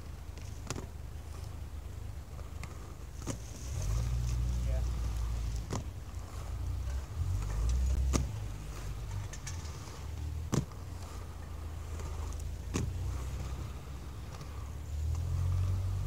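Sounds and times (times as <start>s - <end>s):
skate wheels rolling on concrete: 0.0s - 16.0s.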